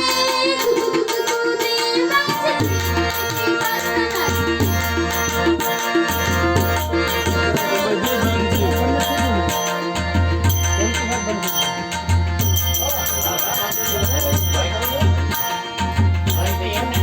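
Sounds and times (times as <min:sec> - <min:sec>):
drums beating: 0:00.0 - 0:17.0
folk music: 0:01.4 - 0:17.0.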